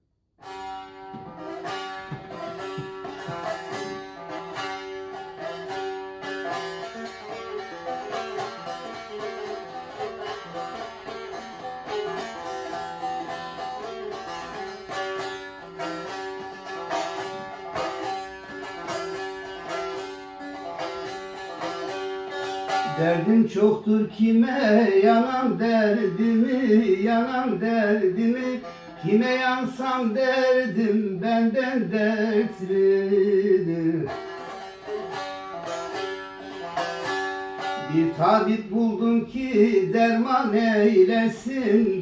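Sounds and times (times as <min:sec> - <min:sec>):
plucked string instrument run: 0:00.4 - 0:30.6, 0:31.8 - 0:42.0.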